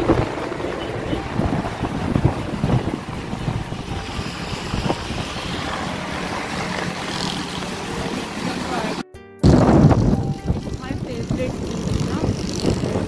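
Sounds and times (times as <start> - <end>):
moving vehicle rumble: 0.0 - 13.0
wind buffeting microphone: 0.0 - 13.0.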